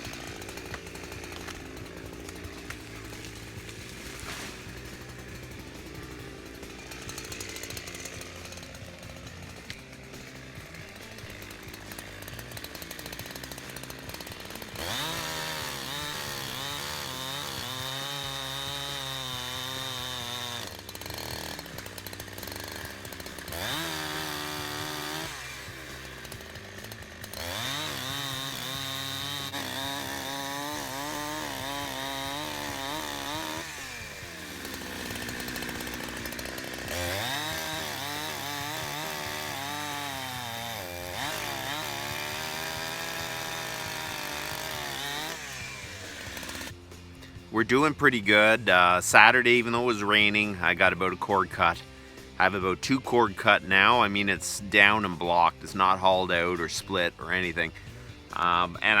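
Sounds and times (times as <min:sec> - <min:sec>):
chainsaw revving and cutting: 0:00.0 - 0:59.0.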